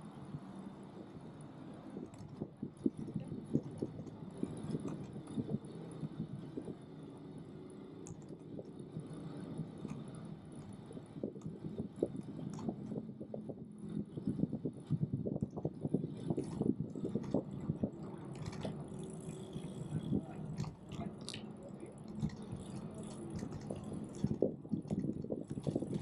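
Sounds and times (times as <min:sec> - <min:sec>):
low riding rumble: 0:00.0 - 0:26.0
bike clicks and rattles: 0:02.0 - 0:26.0.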